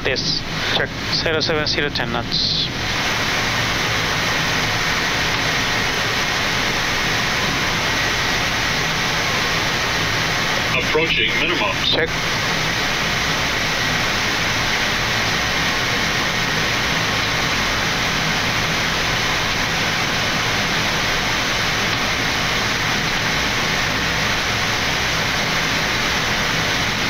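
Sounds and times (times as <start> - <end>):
cockpit air-conditioning: 0.0 - 27.0.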